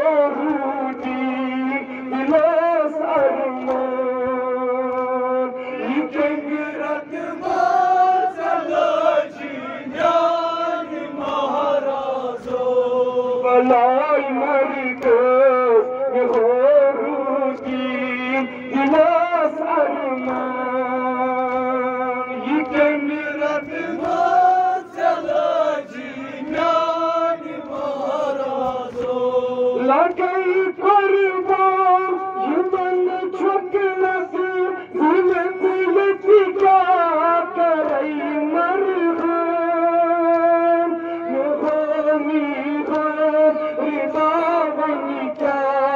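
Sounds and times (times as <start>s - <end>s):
man singing a lament: 0.0s - 45.9s.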